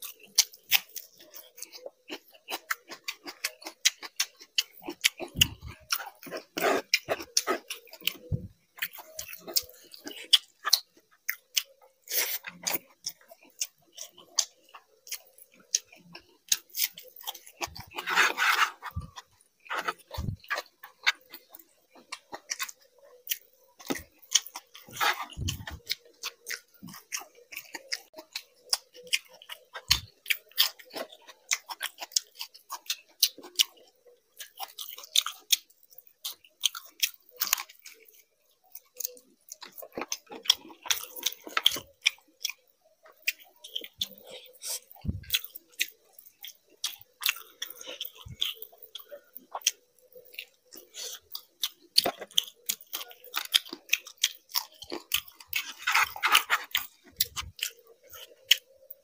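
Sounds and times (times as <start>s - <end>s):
person chewing and crunching food: 0.0s - 59.0s.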